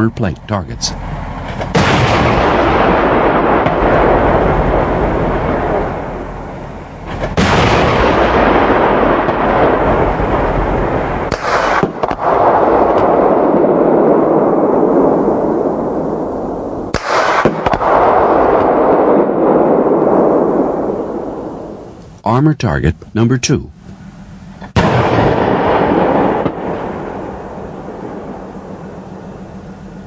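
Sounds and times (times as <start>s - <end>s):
long rolling rumble: 0.0s - 30.0s
autocannon firing: 1.5s - 15.8s, 16.9s - 21.9s, 24.7s - 29.6s.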